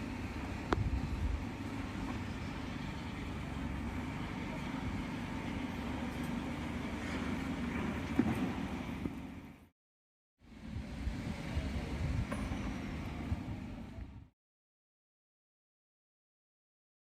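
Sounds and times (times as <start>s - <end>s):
low rumble of vehicle noise: 0.0s - 9.7s, 10.4s - 14.3s.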